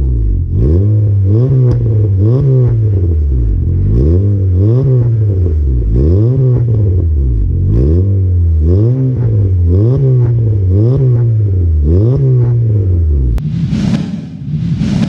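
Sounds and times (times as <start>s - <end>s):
car engine revving: 0.0s - 13.4s.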